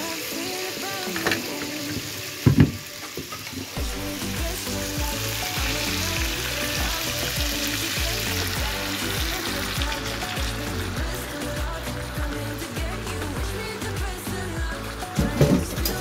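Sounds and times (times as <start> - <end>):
chicken sizzling in oil: 0.0 - 14.0
background music with beat: 0.0 - 16.0.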